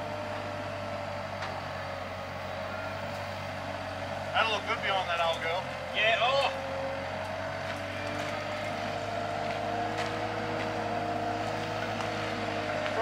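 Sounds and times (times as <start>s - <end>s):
wheel loader engine whining: 0.0s - 13.0s.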